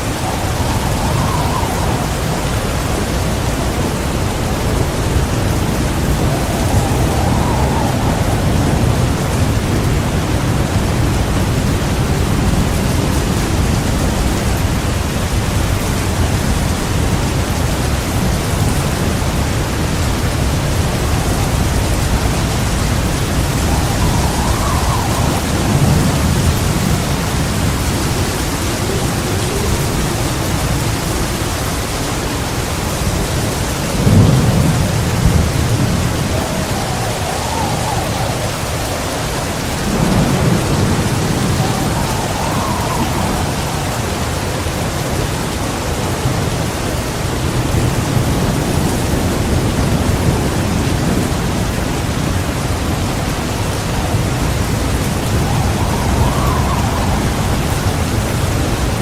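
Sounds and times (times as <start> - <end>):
heavy rain pouring: 0.0 - 59.0
thunder rumbling: 0.0 - 59.0.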